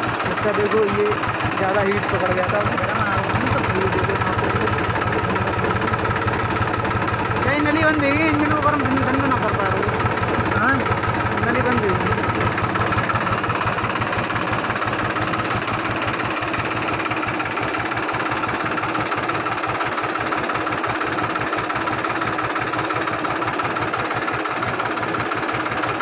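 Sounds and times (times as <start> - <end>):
tractor diesel engine idling: 0.0 - 26.0.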